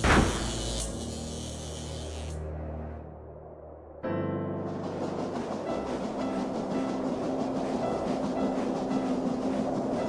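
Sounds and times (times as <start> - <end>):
background music: 0.0 - 10.0
train running on rails: 0.0 - 10.0.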